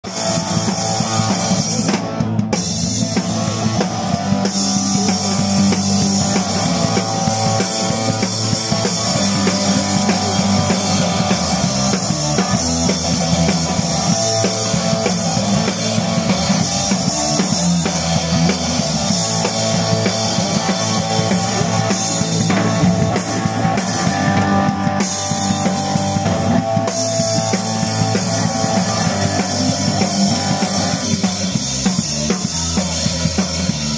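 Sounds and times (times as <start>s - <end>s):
drum kit beat: 0.0s - 33.9s
electric guitar: 0.0s - 33.9s
rock band playing: 0.0s - 33.9s.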